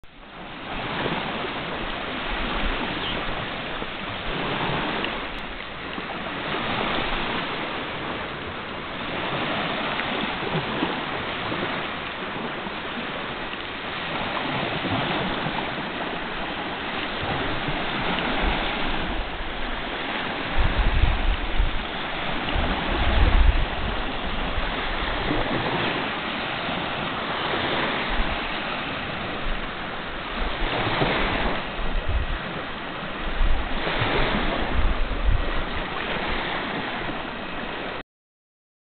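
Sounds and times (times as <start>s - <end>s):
waves lapping on beach: 0.0s - 38.0s
wind buffeting microphone: 0.5s - 38.0s.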